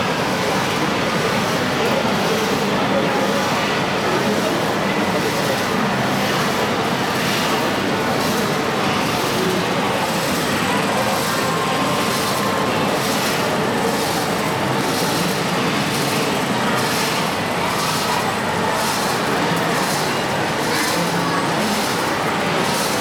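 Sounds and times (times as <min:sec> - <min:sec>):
model trucks running: 0:00.0 - 0:23.0.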